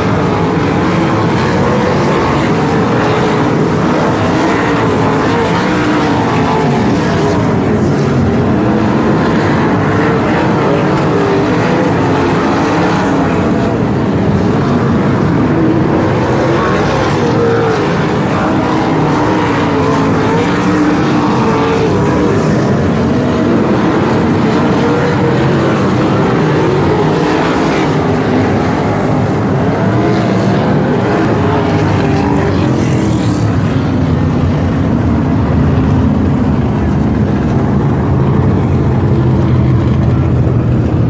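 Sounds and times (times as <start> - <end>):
sprint car engines droning: 0.0 - 41.0.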